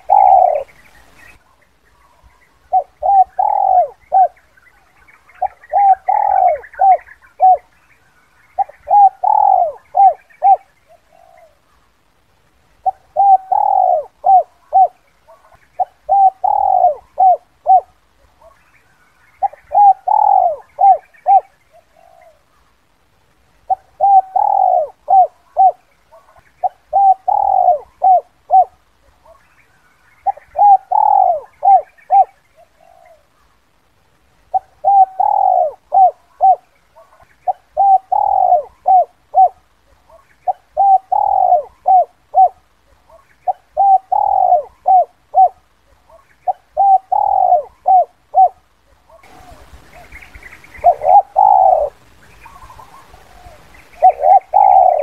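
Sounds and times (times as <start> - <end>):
dove cooing: 0.0 - 7.8, 8.4 - 11.7, 12.8 - 22.6, 23.6 - 33.6, 34.5 - 55.0
faint bird chirps: 0.0 - 12.1, 12.7 - 22.9, 23.6 - 55.0.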